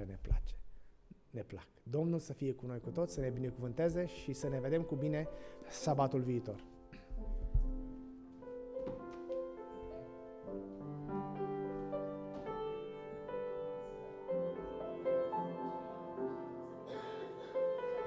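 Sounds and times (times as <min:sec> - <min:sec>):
slow keyboard music: 0:02.7 - 0:18.0.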